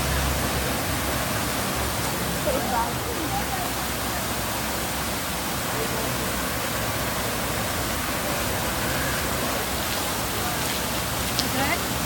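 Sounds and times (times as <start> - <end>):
falling water rushing: 0.0 - 12.0.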